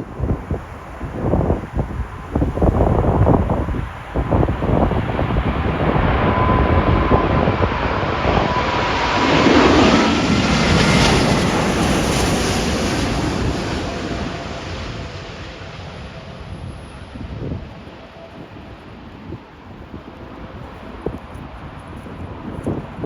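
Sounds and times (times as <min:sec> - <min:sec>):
jet airliner passing overhead: 0:00.0 - 0:23.0
wind buffeting microphone: 0:00.0 - 0:23.0.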